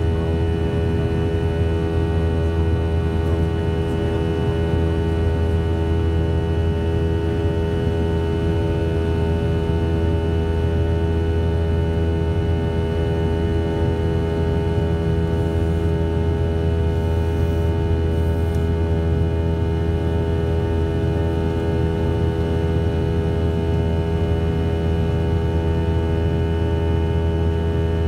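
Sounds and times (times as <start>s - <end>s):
jet engine deep drone: 0.0s - 28.0s.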